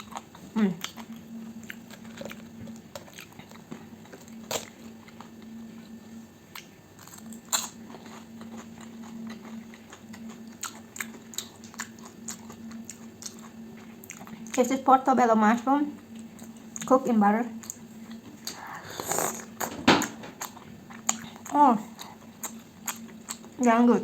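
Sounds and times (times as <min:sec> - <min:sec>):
chewing and crunching bacon: 0:00.0 - 0:24.0.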